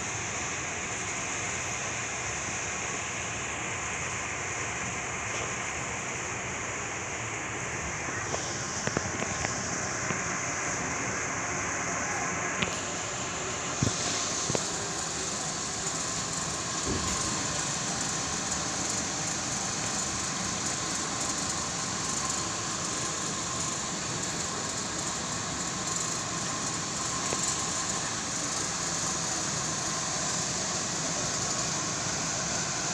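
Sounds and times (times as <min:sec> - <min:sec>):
air conditioner fan blowing: 0:00.0 - 0:32.9.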